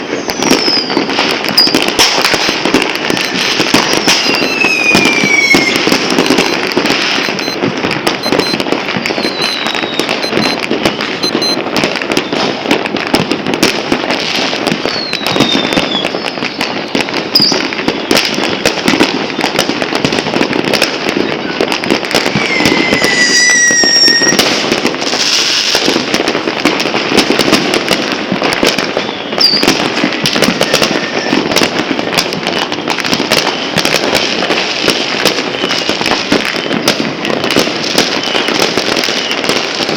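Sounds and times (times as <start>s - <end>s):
whistling rockets: 0.0s - 13.2s, 13.9s - 26.1s, 27.0s - 39.9s
fireworks and firecrackers crackling: 0.0s - 39.9s.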